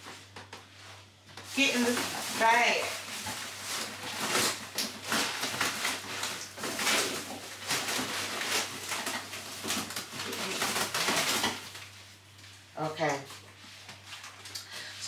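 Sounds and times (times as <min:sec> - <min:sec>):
plastic bag and cardboard rustling: 0:00.0 - 0:15.0.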